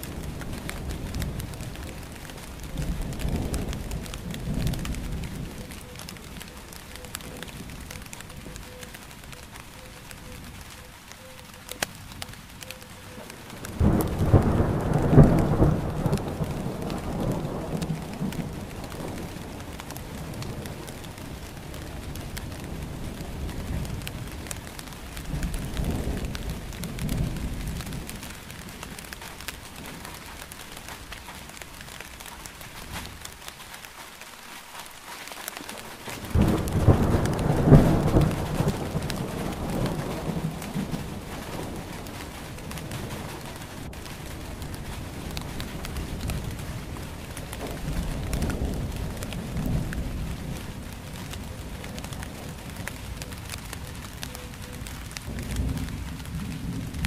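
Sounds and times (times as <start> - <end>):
rolling thunder: 0.0 - 8.6, 13.2 - 30.5, 36.1 - 57.0
steady rain falling: 0.0 - 57.0.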